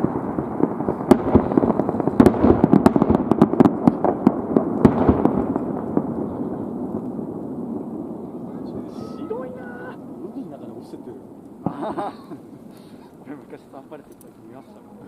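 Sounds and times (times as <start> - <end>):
fireworks bangs and crackles: 0.0 - 15.0
low rolling rumble: 0.0 - 15.0.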